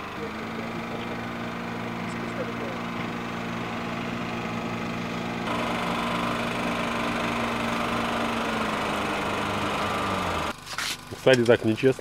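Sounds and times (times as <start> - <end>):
small outboard motor running: 0.0 - 12.0.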